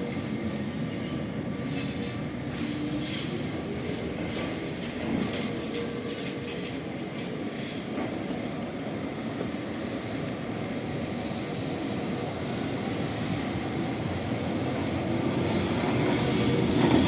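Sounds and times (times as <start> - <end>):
tram rumbling on rails: 0.0 - 17.0
tram wheels clicking: 0.1 - 17.0.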